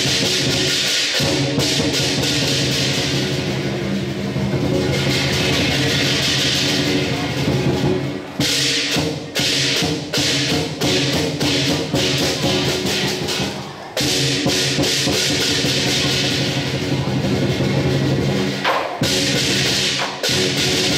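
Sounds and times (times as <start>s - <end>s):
cymbals clashing: 0.0s - 20.9s
drum playing: 0.0s - 20.9s.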